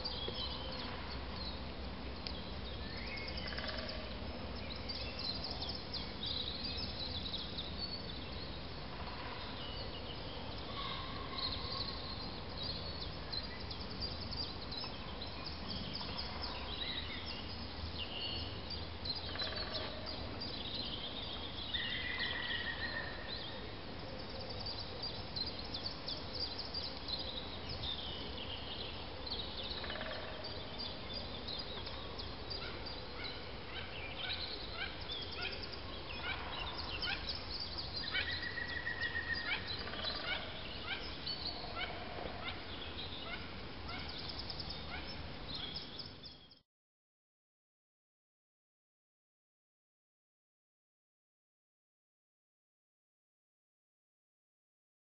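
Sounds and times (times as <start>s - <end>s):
bird chorus: 0.0s - 46.6s
low steady background noise: 0.0s - 46.6s.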